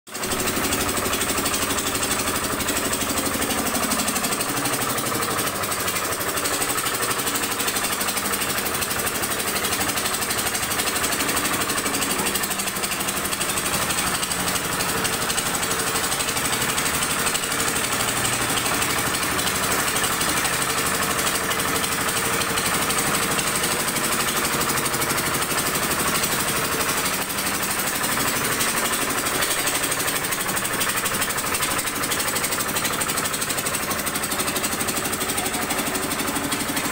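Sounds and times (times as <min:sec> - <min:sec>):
vibratory roller rattling: 0:00.1 - 0:36.9.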